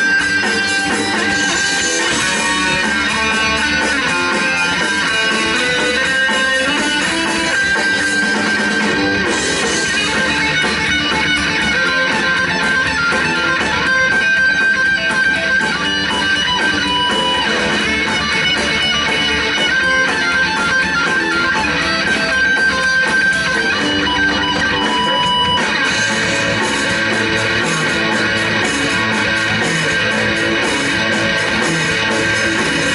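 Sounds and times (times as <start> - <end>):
bass guitar: 0.0 - 32.9
drums: 0.0 - 32.9
electric guitar: 0.0 - 32.9.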